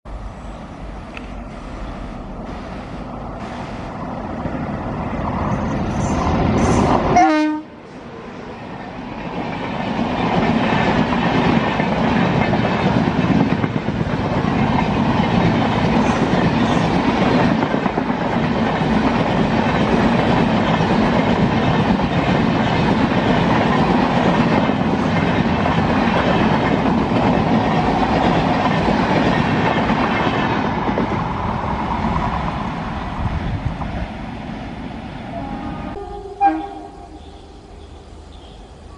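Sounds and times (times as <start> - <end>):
electric locomotive approaching: 0.1 - 38.9.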